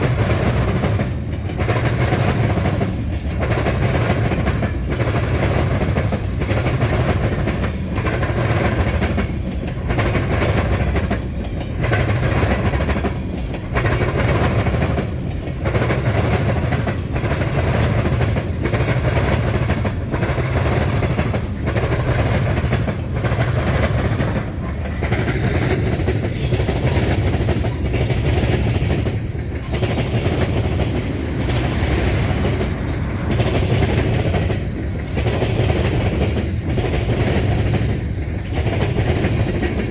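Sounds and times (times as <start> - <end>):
train wheels clacking over crossing: 0.0 - 39.9.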